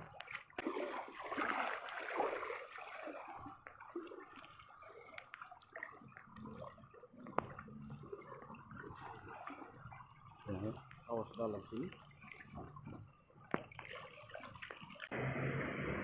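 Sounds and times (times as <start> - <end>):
water drips: 0.0 - 15.2
wading through water splashing: 0.0 - 15.6.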